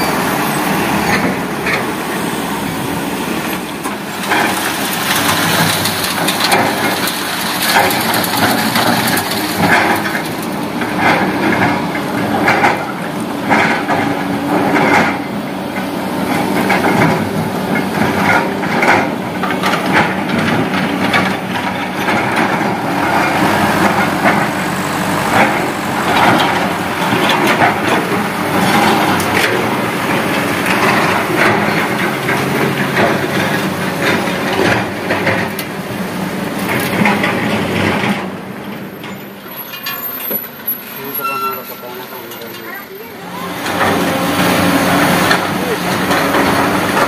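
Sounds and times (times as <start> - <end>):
excavator diesel engine: 0.0 - 47.0.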